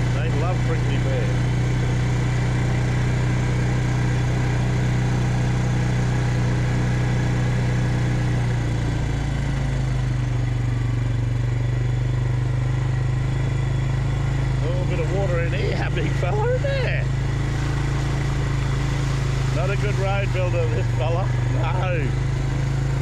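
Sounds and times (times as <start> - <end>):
farm vehicle engine running: 0.0 - 23.0.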